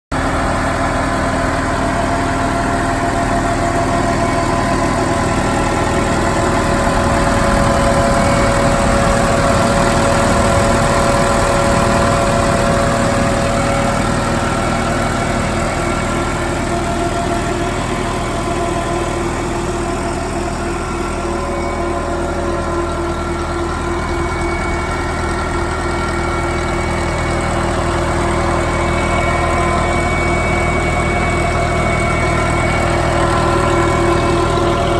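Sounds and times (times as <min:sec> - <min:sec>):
tractor engine idling: 0:00.1 - 0:34.9.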